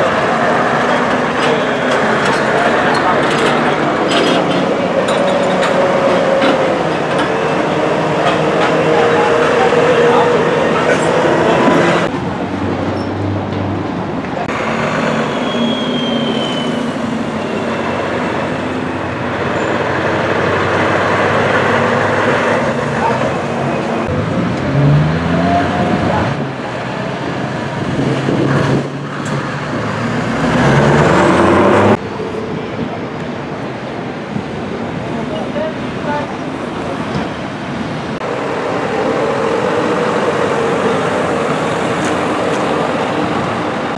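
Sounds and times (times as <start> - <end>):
diesel trucks passing: 0.0 - 43.9
road noise: 0.0 - 43.9.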